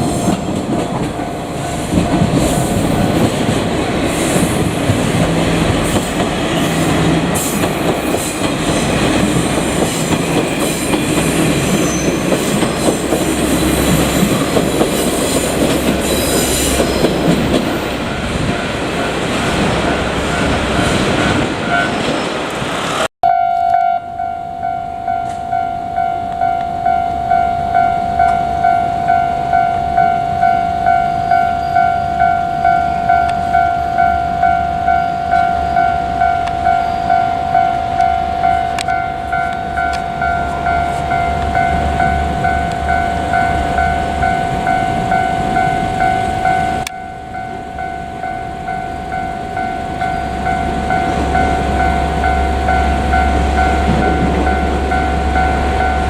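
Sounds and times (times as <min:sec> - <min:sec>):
train rumble: 0:00.0 - 0:23.1, 0:25.0 - 0:56.0
level-crossing warning bell: 0:04.6 - 0:22.0, 0:23.2 - 0:56.0.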